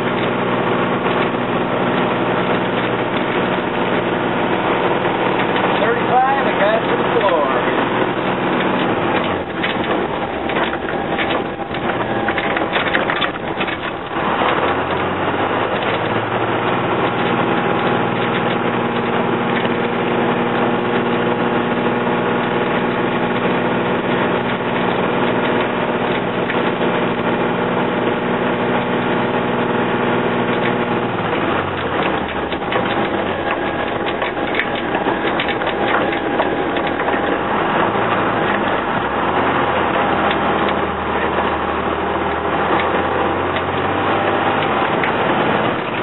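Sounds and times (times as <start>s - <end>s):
body rattles and clatter: 0.0s - 29.4s, 30.4s - 46.0s
diesel engine droning: 0.0s - 46.0s.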